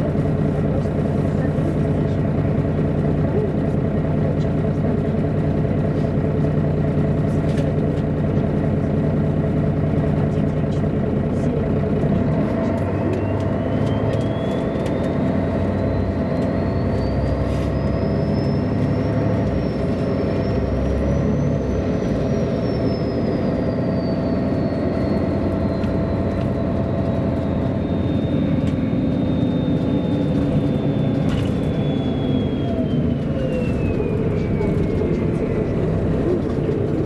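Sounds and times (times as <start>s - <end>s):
bus diesel engine running: 0.0s - 37.0s.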